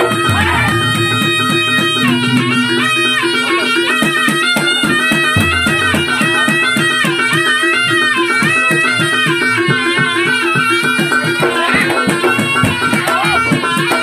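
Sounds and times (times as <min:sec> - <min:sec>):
drums and gongs beat: 0:00.0 - 0:14.0
shrill reed shawm melody: 0:00.0 - 0:14.0.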